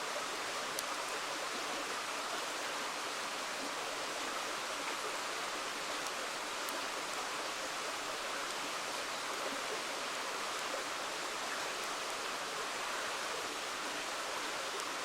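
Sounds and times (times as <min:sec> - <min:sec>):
river water flowing: 0:00.0 - 0:15.0
campfire crackles: 0:00.2 - 0:15.0.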